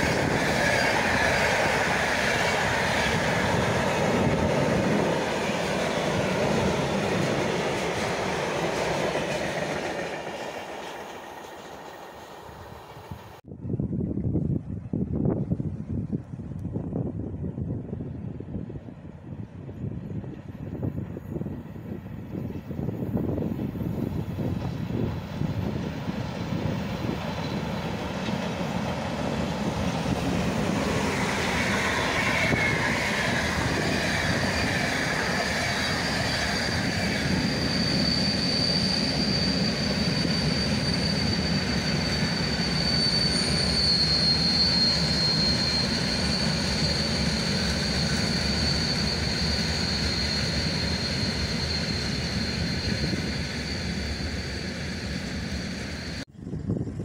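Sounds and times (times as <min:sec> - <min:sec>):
high wheel squeal: 0:00.0 - 0:13.4, 0:20.2 - 0:56.3
train wheels rumbling on rails: 0:00.0 - 0:57.0.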